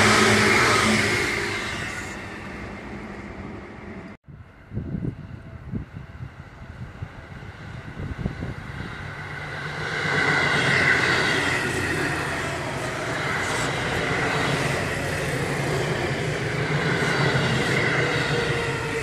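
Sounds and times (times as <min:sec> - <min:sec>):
electric train passing: 0:00.0 - 0:19.0
high whine: 0:00.0 - 0:19.0.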